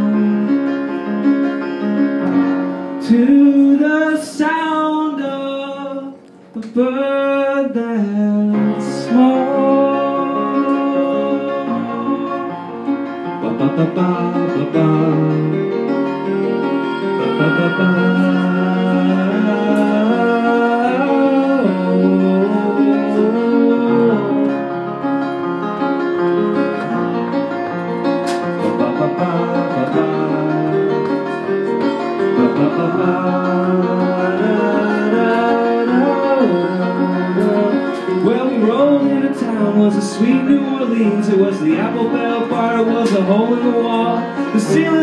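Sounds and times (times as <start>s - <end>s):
man singing wordless melody: 0.0s - 1.7s, 2.9s - 26.9s, 28.3s - 45.0s
keyboard chords: 0.0s - 45.0s.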